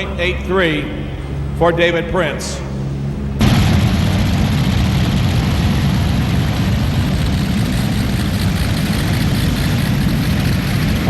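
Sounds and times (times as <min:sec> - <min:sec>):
aircraft engines running loud: 0:00.0 - 0:11.0.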